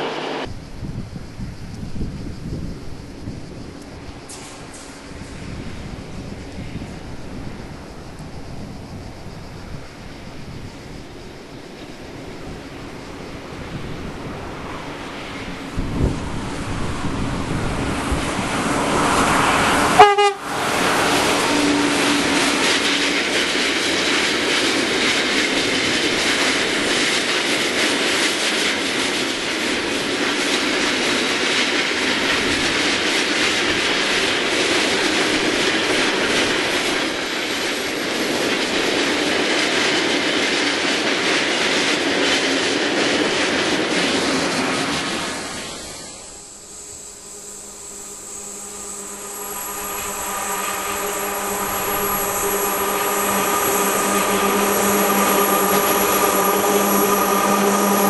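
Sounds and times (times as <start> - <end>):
locomotive passing blast: 0.0 - 0.5, 3.8 - 58.0
train wheels rumbling on rails: 0.0 - 58.0.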